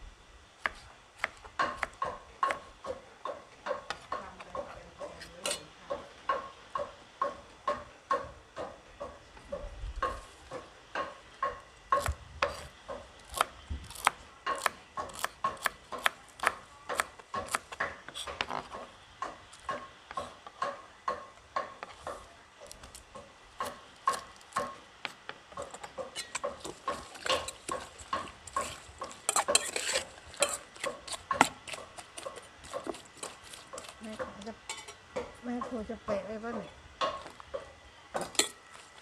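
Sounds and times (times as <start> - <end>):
knife chopping on wooden board: 0.6 - 5.3, 6.0 - 22.8, 23.6 - 34.4.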